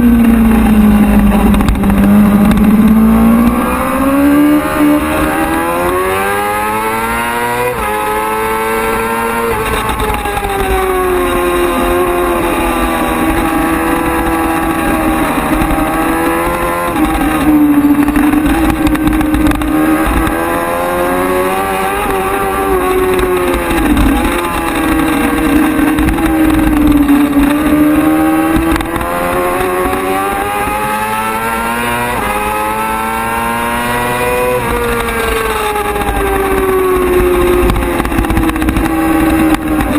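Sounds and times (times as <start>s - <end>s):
racing motorcycle engine: 0.0s - 39.9s.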